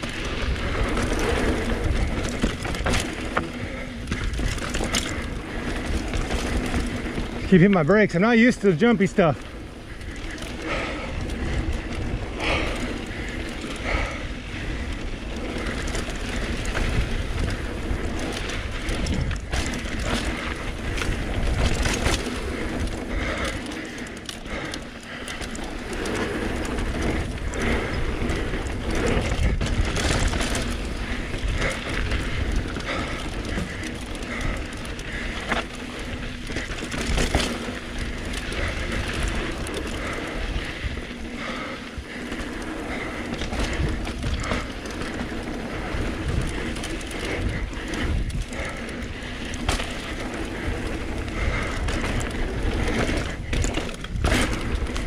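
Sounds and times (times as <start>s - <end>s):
bike chain rattling: 0.0s - 55.0s
bike freehub ratcheting: 0.0s - 55.0s
tyres on dirt: 0.0s - 55.0s.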